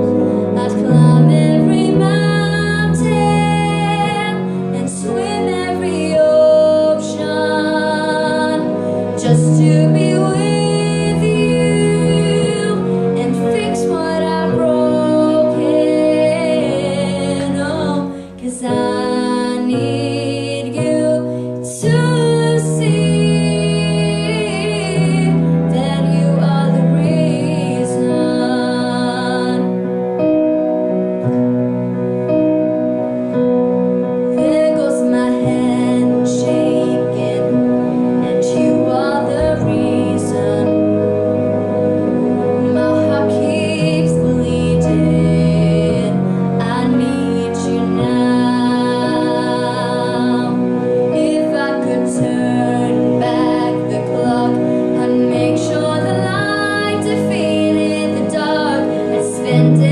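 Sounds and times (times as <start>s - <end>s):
young woman singing: 0.0s - 29.8s, 34.3s - 41.0s, 42.6s - 59.9s
instrumental accompaniment: 0.0s - 59.9s.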